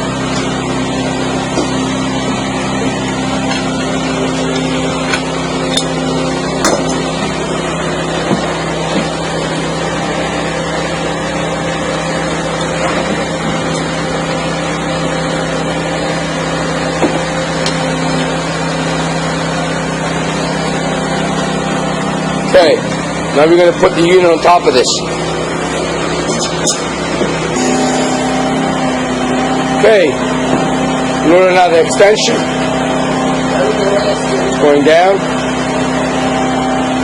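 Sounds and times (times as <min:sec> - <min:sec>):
power unit engine running: 0:00.0 - 0:37.0.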